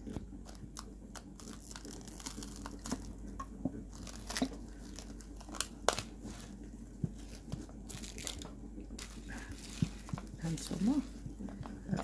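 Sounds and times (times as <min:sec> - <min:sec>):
cling film crinkling: 0:00.0 - 0:11.0.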